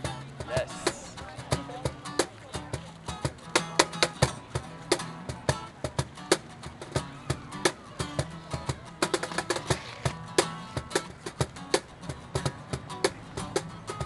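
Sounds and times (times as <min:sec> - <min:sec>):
acoustic guitar strumming: 0:00.0 - 0:14.0
cajon hits: 0:00.0 - 0:14.0.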